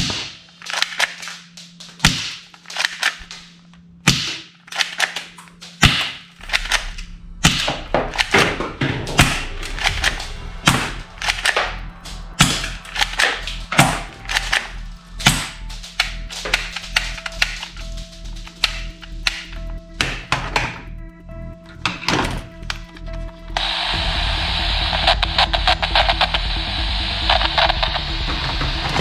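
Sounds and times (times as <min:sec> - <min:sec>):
faint low hum: 0:00.4 - 0:28.6.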